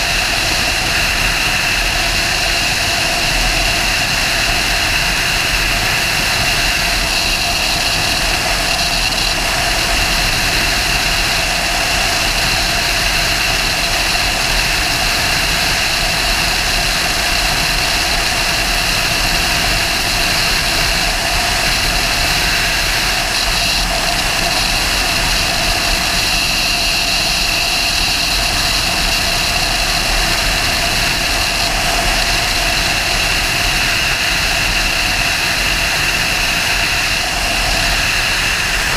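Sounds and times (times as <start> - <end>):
motorcycle engine drone: 0.0 - 38.9
wind rush on microphone: 0.0 - 38.9.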